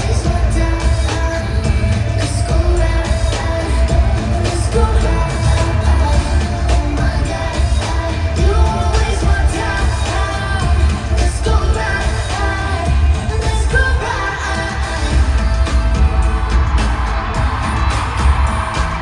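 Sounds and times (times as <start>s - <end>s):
woman singing: 0.0s - 16.6s
heavy pulsing bass beat: 0.0s - 19.0s.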